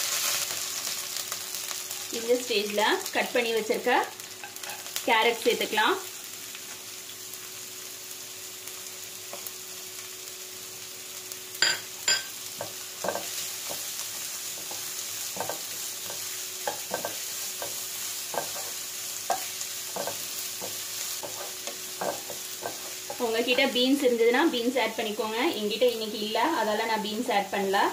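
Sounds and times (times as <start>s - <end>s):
vegetables sizzling in hot oil: 0.0s - 27.9s.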